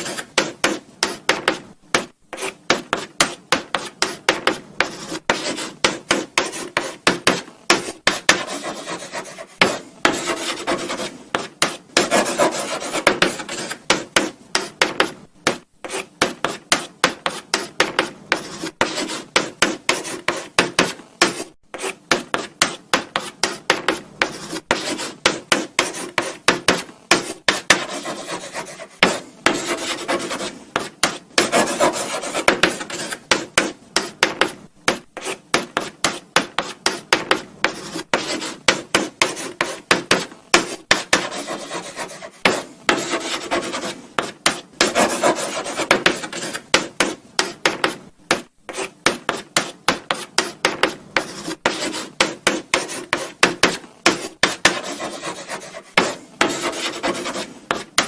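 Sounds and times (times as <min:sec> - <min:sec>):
chalk scratching on blackboard: 0:00.0 - 0:58.0.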